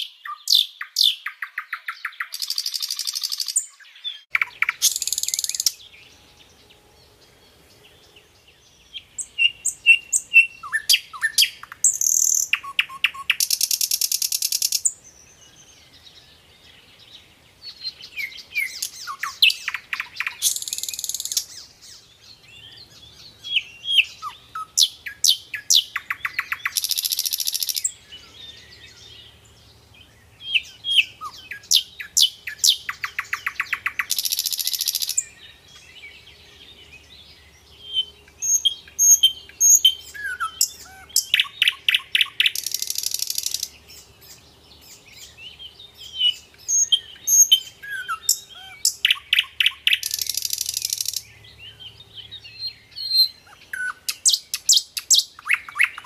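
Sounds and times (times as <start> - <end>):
nightingale singing: 0.0 - 56.0.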